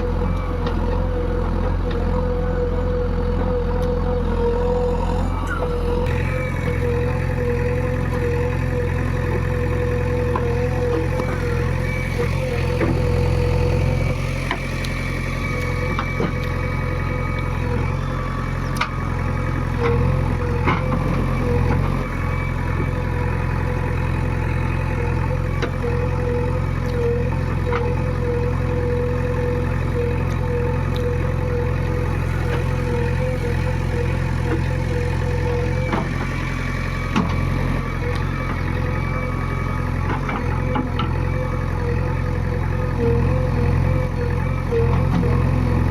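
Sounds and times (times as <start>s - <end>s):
constant whine: 0.0s - 45.9s
excavator diesel engine running: 0.0s - 45.9s.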